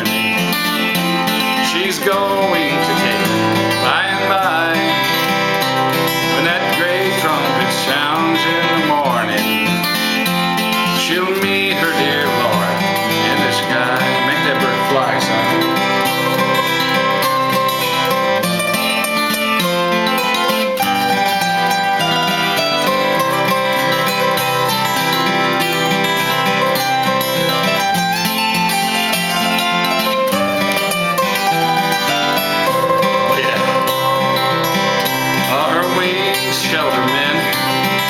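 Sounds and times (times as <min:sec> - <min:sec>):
acoustic guitar accompaniment: 0:00.0 - 0:38.0
picked string lead melody: 0:00.0 - 0:38.0.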